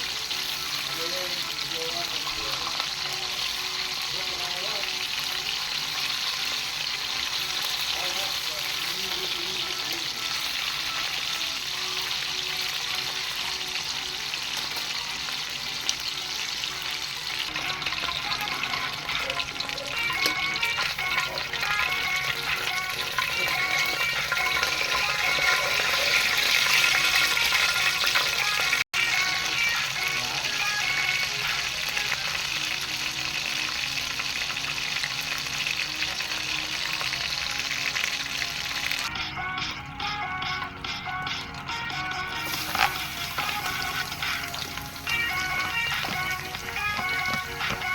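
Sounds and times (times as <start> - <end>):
food sizzling in a pan: 0.0 - 39.1, 42.2 - 47.9.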